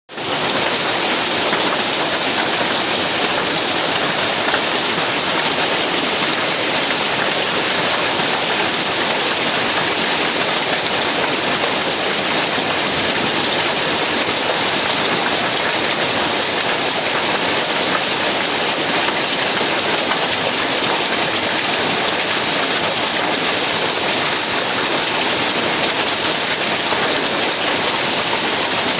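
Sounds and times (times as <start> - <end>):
heavy rain falling: 0.1 - 28.9.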